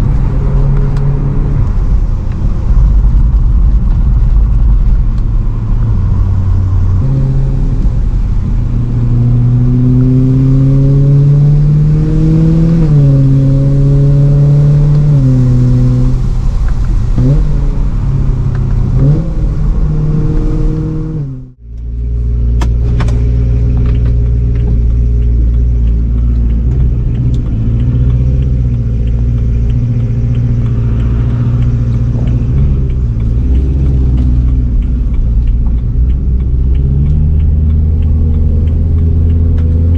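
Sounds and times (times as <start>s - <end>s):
tyres hissing on wet road: 0.0s - 21.2s, 23.3s - 39.3s
car engine accelerating: 0.0s - 39.9s.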